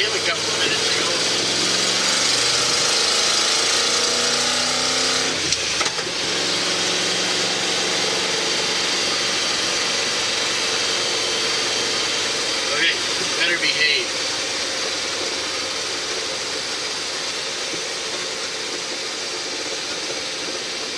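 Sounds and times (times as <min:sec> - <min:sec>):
engine accelerating and shifting: 0:00.0 - 0:20.9.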